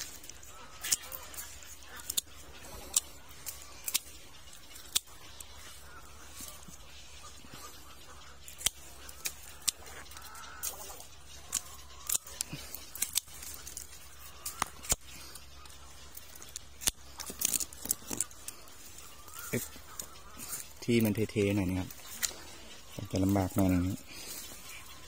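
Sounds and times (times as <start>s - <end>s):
dry twigs snapping: 0.0s - 25.0s.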